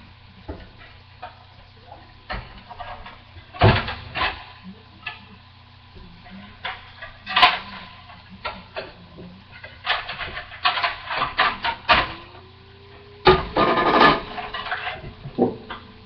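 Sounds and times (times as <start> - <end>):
fat popping and crackling: 0.0 - 16.0
steady low hum: 0.0 - 16.0.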